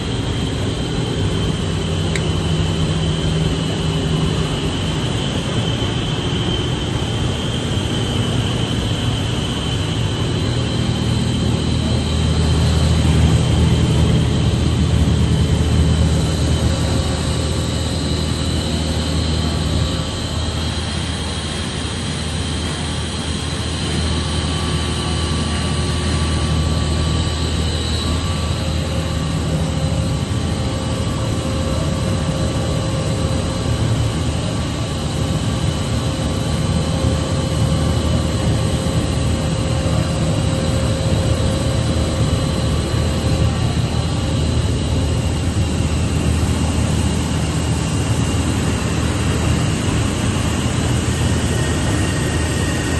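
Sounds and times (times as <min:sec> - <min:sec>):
machine drone with whining tones: 0:00.0 - 0:52.9.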